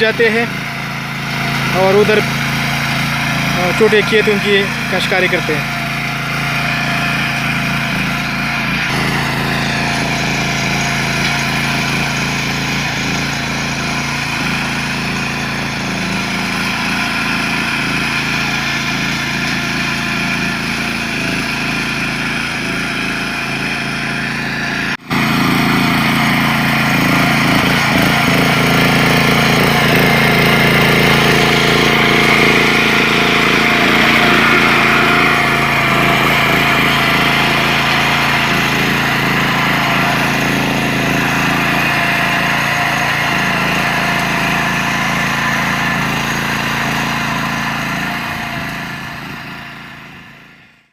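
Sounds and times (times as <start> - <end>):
small tractor engine running: 0.0 - 50.9.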